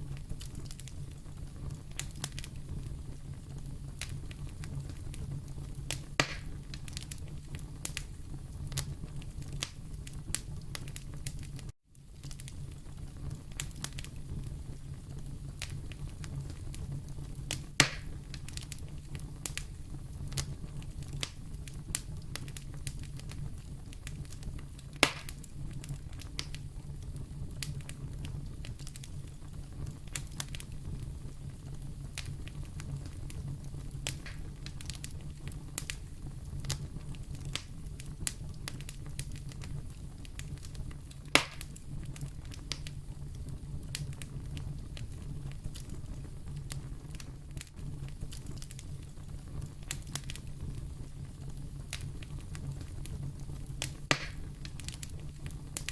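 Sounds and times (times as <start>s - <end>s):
loud fire pops: 0.0s - 55.9s
low rumble of flames: 0.0s - 55.9s
wood fire crackling: 0.0s - 55.9s.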